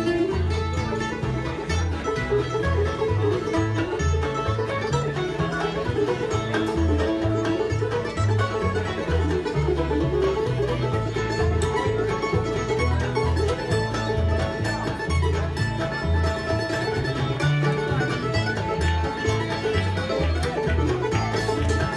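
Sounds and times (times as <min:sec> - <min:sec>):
banjo: 0:00.0 - 0:21.9
fiddle melody: 0:00.0 - 0:21.9
guitar: 0:00.0 - 0:21.9
mandolin: 0:00.0 - 0:21.9
upright bass: 0:00.0 - 0:21.9.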